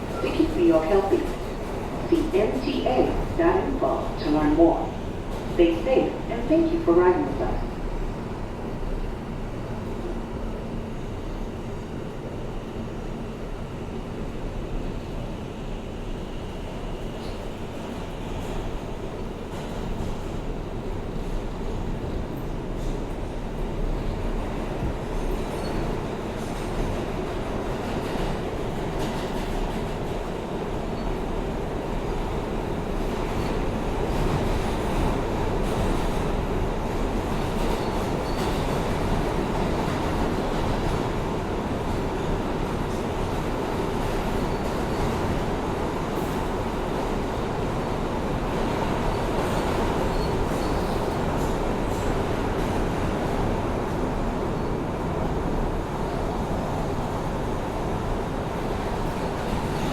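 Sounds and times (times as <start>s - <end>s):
subway train rumbling on rails: 0.0s - 59.9s.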